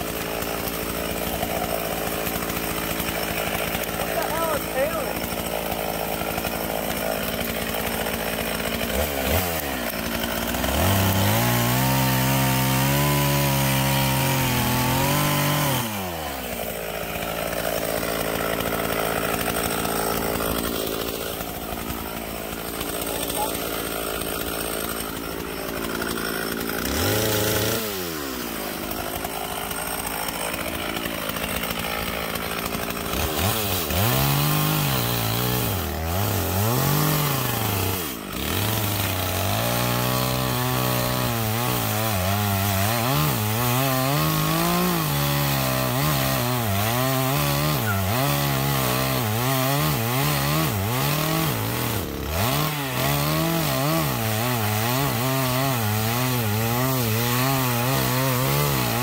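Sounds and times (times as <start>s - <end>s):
chainsaw cutting logs: 0.0s - 59.0s.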